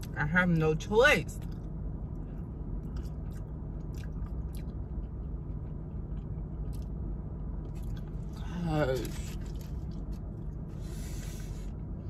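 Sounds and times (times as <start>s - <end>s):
steady low hum: 0.0s - 12.0s
woman biting and chewing food: 1.4s - 11.4s.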